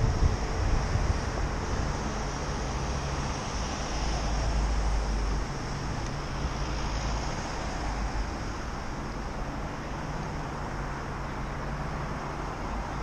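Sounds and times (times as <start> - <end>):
low traffic rumble: 0.0 - 13.0
vehicles driving past: 0.0 - 13.0.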